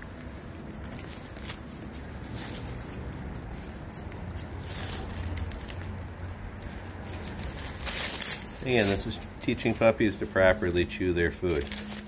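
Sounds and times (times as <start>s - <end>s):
dry leaves crinkling: 0.0s - 12.0s
puppies chewing meat: 0.0s - 12.0s
steady low rumble: 0.0s - 12.0s.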